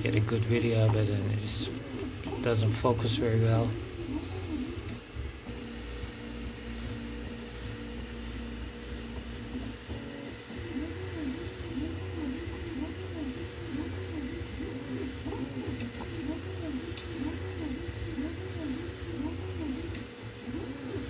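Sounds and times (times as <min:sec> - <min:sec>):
steady hum and tone: 0:00.0 - 0:21.0
stepper motors whining: 0:00.0 - 0:21.0.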